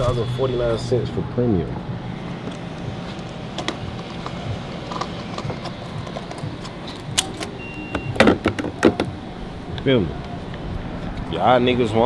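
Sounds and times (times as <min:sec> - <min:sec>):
fuel pump humming: 0:00.0 - 0:11.4.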